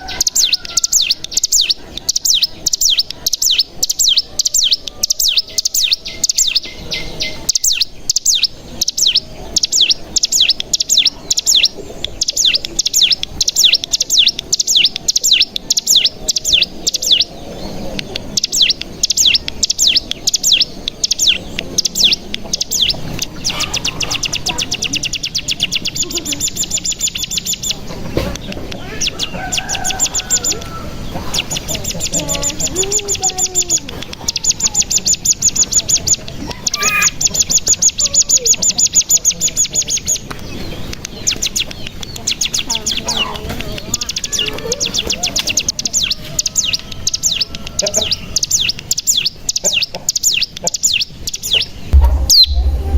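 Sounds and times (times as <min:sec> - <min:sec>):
bird chirping and trilling: 0:00.0 - 0:52.9.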